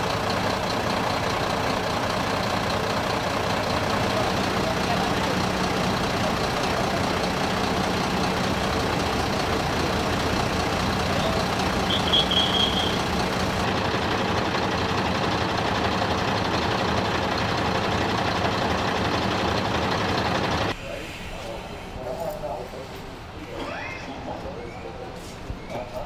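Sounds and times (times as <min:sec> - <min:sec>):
diesel engine idling: 0:00.0 - 0:22.6.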